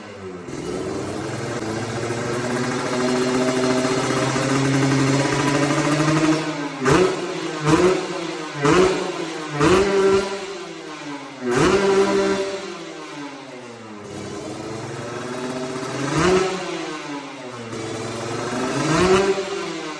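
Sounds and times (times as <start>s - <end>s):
two-stroke engine idling and revving: 0.0s - 19.9s.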